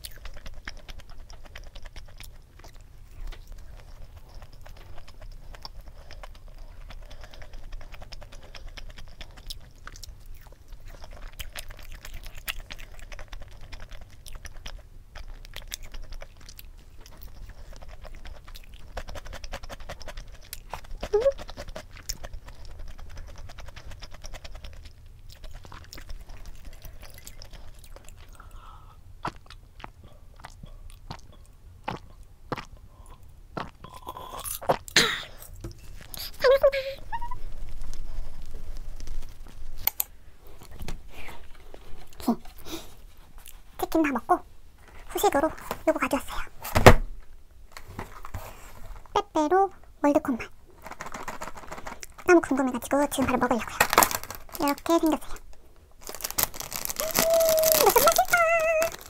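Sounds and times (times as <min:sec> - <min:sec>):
crunchy chewing and mouth smacks: 0:00.0 - 0:46.7, 0:50.4 - 0:59.0.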